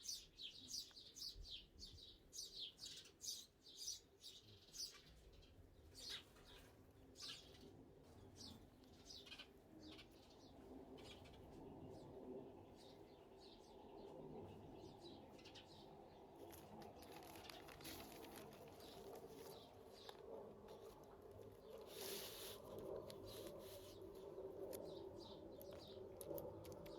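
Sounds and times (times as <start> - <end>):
small bird chirping: 0.0 - 7.8, 8.4 - 12.0, 12.7 - 26.9
soft low background noise: 0.0 - 26.9.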